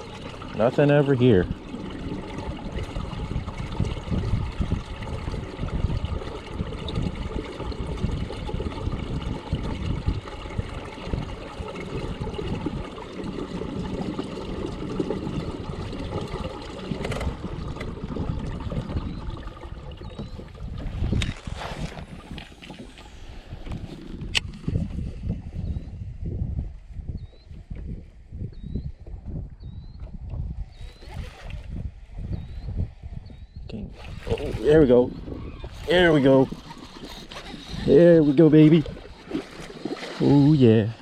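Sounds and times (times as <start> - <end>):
water lapping against kayak hull: 0.0 - 25.9, 28.6 - 41.0.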